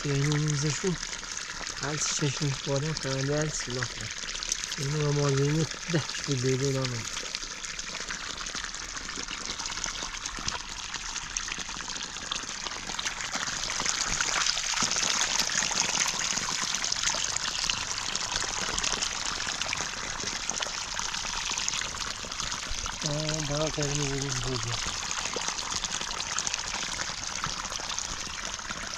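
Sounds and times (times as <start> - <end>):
running water rushing: 0.0 - 11.7, 12.6 - 28.9.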